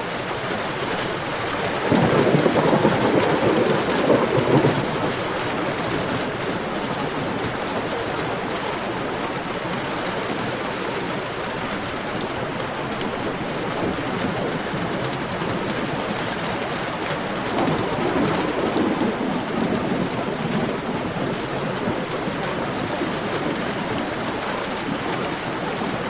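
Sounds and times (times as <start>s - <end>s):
heavy rain falling: 0.0s - 26.0s
thunder rumbling: 0.2s - 10.4s, 12.6s - 26.0s.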